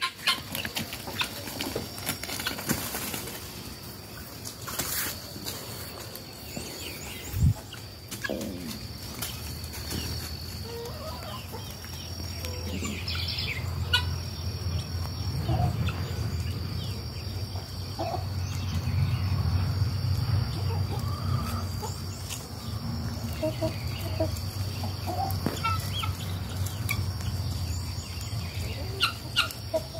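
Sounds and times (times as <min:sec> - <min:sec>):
chickens and guinea fowl calling: 0:00.0 - 0:29.9.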